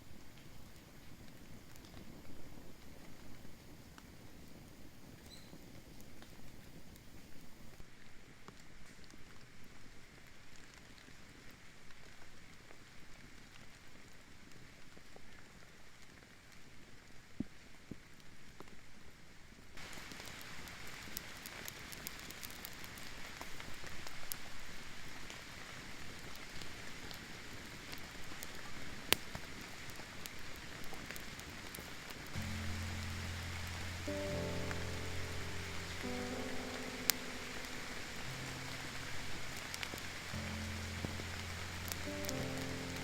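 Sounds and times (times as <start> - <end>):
rain pattering: 0.0 - 43.0.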